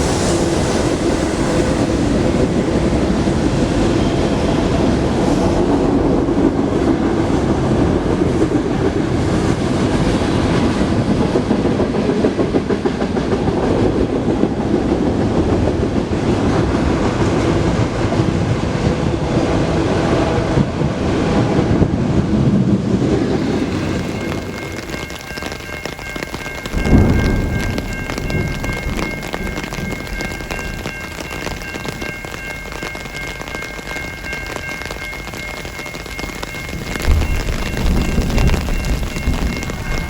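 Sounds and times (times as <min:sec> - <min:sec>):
freight train rolling past: 0:00.0 - 0:40.0.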